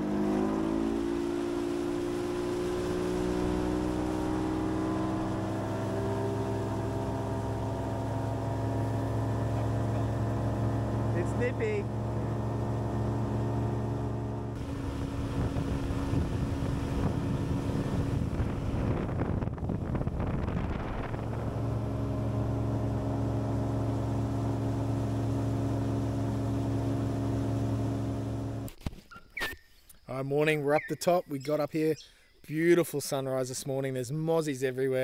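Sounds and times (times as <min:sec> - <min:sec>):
outboard motor running: 0:00.0 - 0:28.8.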